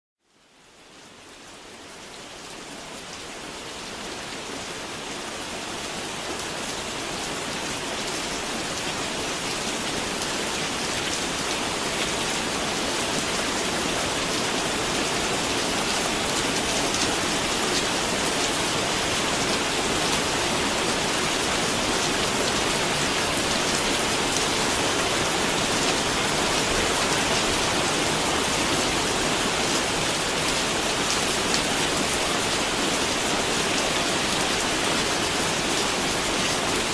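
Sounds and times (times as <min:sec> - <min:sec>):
rain falling: 0:00.3 - 0:36.9.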